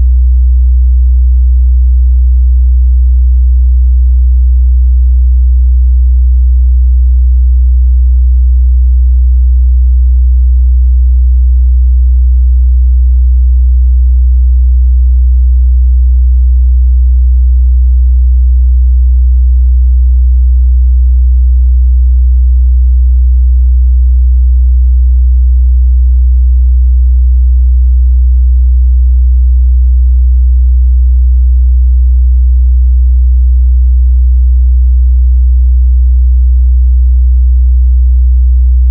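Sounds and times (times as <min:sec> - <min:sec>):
low sine-wave test tone: 0:00.0 - 0:35.5, 0:37.9 - 0:38.9.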